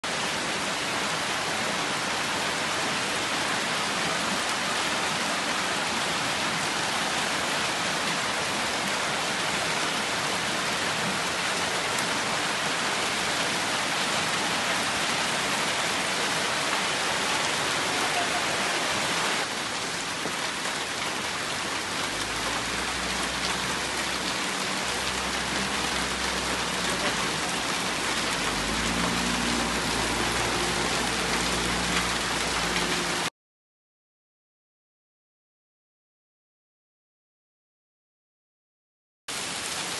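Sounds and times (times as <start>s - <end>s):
heavy rain pouring: 0.0s - 33.3s, 39.3s - 39.9s.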